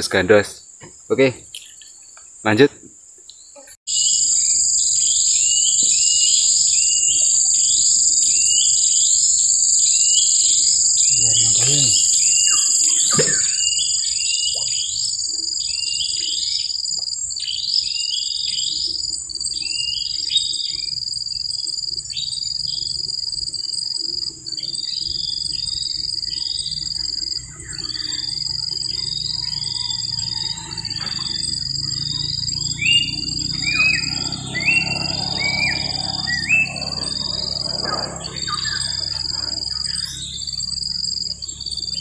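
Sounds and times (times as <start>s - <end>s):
birds chirping: 0.0s - 23.2s, 24.0s - 42.0s
high-pitched insect drone: 0.0s - 42.0s.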